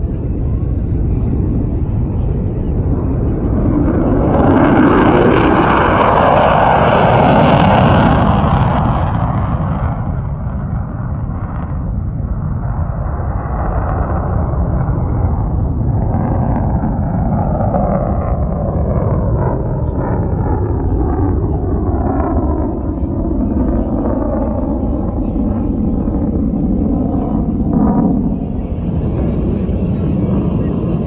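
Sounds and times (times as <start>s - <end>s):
fighter jet afterburner roar: 0.0s - 31.0s.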